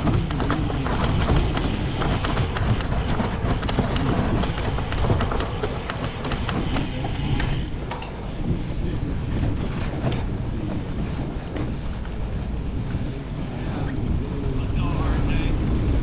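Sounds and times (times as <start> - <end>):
bike rattling over rough ground: 0.0 - 16.0
wind rushing on microphone: 0.0 - 16.0.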